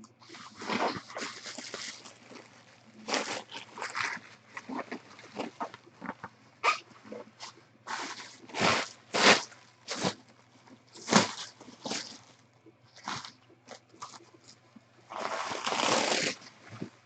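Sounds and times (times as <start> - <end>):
plastic crackles: 0.0 - 17.0
bubble wrap crinkling: 0.2 - 17.0.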